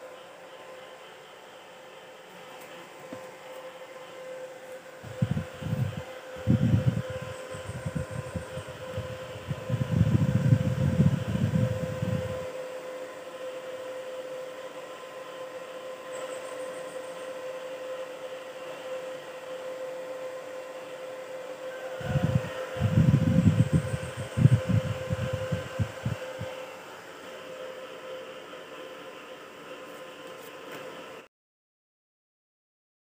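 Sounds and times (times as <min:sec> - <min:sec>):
welding machine cooling fan hum: 0:00.0 - 0:31.3.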